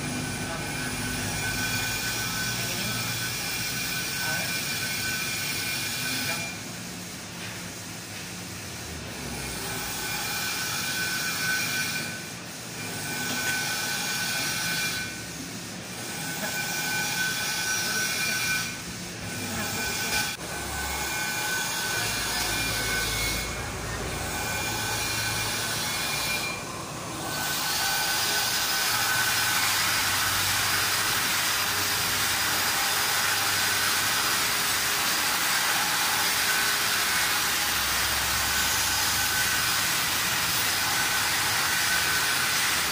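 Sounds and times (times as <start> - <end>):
metal lathe whining: 0.0 - 6.8, 9.0 - 42.9.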